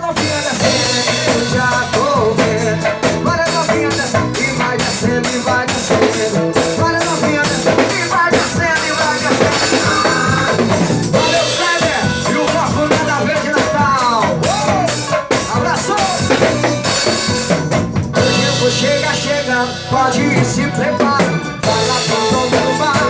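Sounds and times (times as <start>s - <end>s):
carnival band music: 0.0s - 23.0s
drum kit beat: 0.0s - 23.0s.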